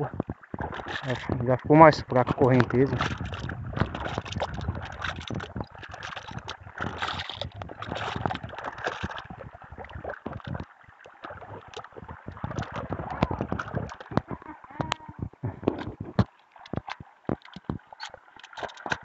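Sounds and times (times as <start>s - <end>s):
floodwater rushing: 0.0s - 19.0s
sharp crackles: 0.0s - 19.0s.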